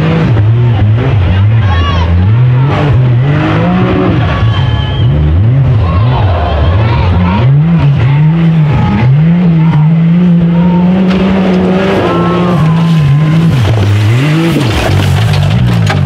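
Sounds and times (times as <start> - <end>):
buggy engine revving: 0.0 - 16.0.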